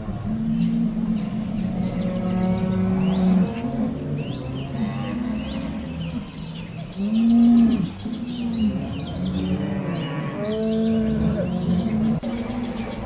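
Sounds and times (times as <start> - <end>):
cows mooing: 0.0 - 12.4
small birds chirping: 0.0 - 13.0.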